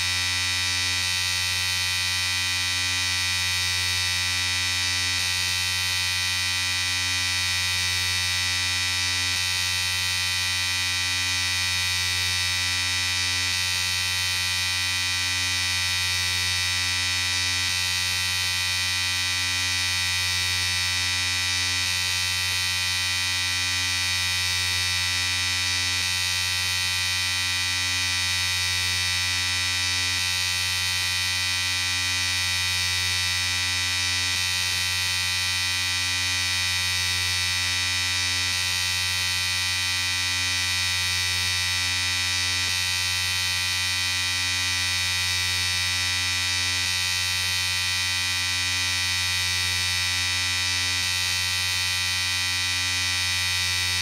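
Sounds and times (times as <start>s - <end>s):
electric shaver buzzing: 0.0s - 54.0s.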